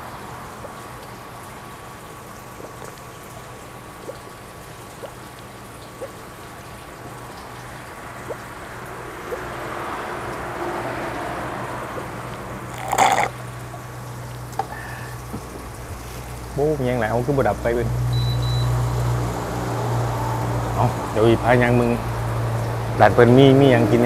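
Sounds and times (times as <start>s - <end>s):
broth simmering with bubbling pops: 0.0s - 20.6s.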